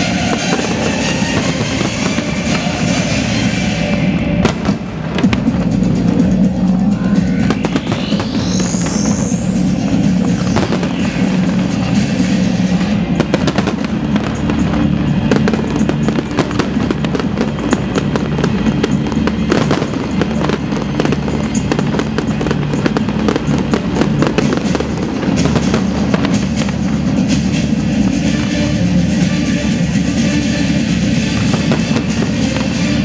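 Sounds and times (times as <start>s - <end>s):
fireworks bangs and crackles: 0.0s - 33.0s
loud music: 0.0s - 33.0s.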